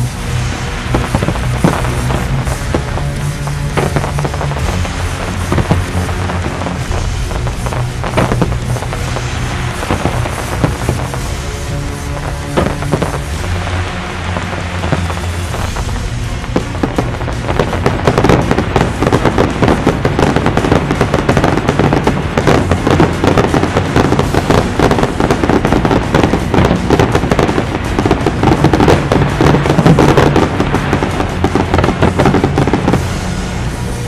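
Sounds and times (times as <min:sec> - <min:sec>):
fireworks bangs and crackles: 0:00.0 - 0:34.0
music: 0:00.0 - 0:34.0.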